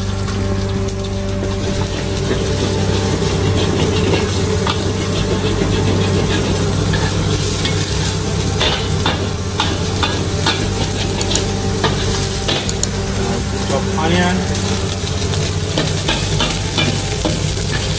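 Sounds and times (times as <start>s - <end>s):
egg sizzling in oil: 0.0s - 17.9s
low steady hum: 0.0s - 17.9s
spatula scraping wok: 1.0s - 17.9s.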